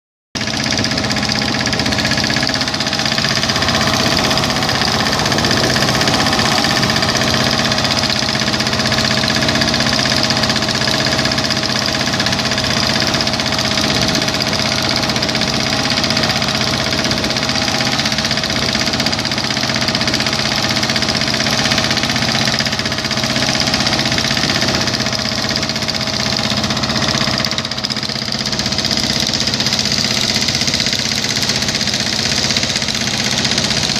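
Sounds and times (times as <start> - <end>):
engine running steadily: 0.4 - 33.9.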